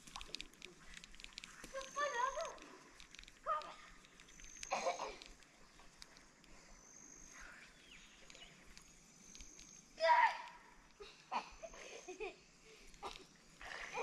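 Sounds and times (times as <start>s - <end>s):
bird calls: 0.0s - 14.0s.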